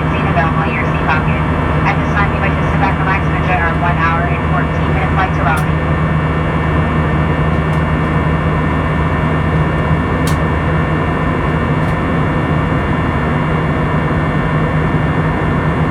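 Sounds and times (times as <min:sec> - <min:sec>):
jet engine drone: 0:00.0 - 0:15.9
steady low hum: 0:00.0 - 0:15.9.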